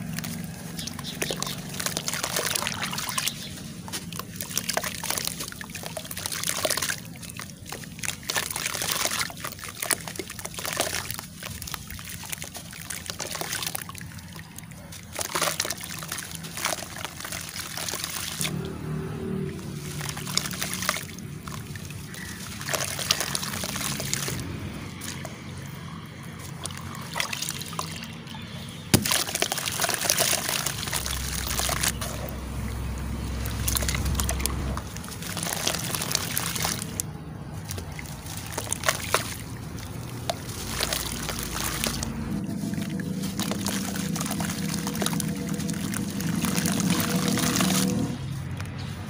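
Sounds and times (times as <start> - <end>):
water sloshing and splashing: 0.0 - 49.0.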